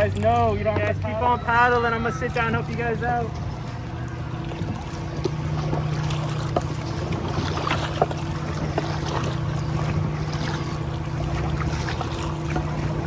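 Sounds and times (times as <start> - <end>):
low hum: 0.0 - 13.0
paddles knocking on canoe: 0.0 - 13.0
paddles splashing: 0.0 - 13.0.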